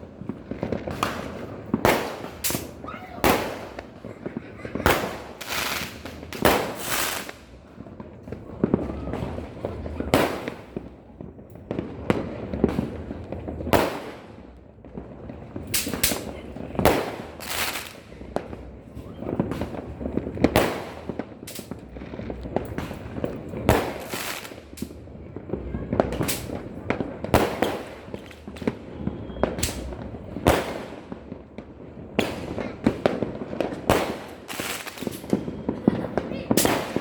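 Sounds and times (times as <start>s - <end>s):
fireworks banging with echo: 0.0s - 37.0s.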